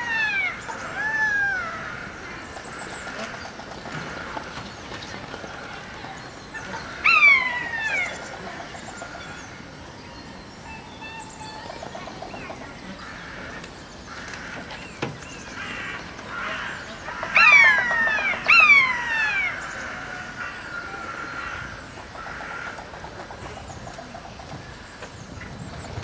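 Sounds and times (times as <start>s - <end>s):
faint bird calls: 0.0s - 26.0s.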